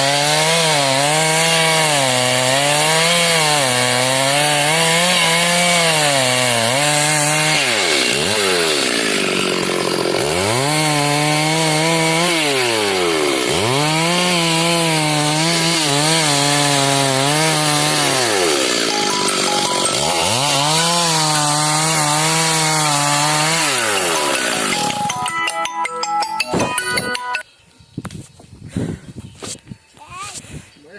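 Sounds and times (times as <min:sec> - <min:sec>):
chainsaw cutting a log: 0:00.0 - 0:25.3.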